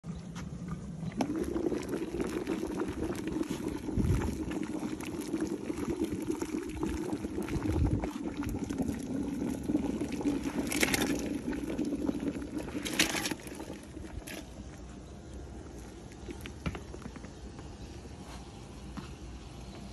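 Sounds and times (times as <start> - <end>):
broth bubbling: 0.5 - 17.4.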